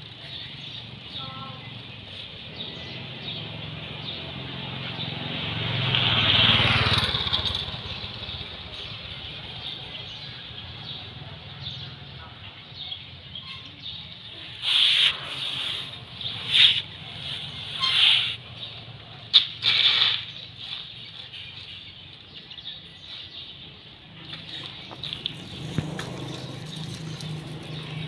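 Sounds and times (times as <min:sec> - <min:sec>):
motorbike passing: 0:01.6 - 0:12.6, 0:13.2 - 0:21.0, 0:23.9 - 0:28.0.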